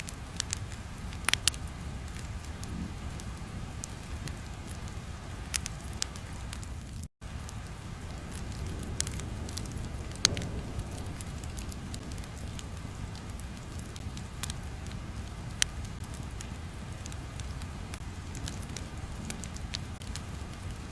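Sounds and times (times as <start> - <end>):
crackling with sharp pops: 0.0 - 20.9.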